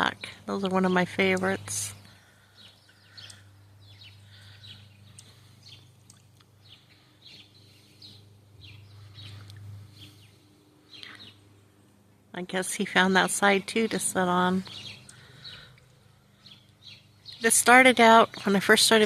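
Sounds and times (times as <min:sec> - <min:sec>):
faint low hum: 0:00.0 - 0:19.0
small birds chirping: 0:00.0 - 0:19.0.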